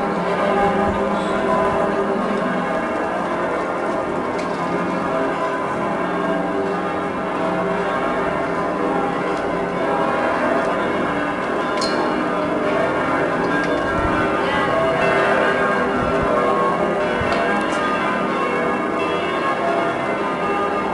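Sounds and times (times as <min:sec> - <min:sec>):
church bells pealing: 0:00.0 - 0:20.9.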